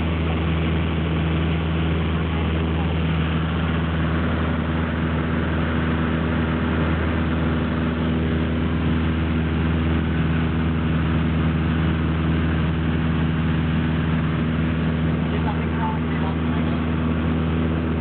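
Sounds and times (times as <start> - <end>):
propeller engine droning: 0.0 - 18.0.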